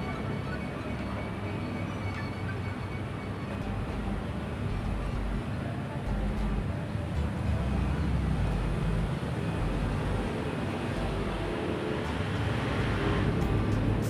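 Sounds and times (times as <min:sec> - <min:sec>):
low outdoor rumble: 0:02.2 - 0:14.0.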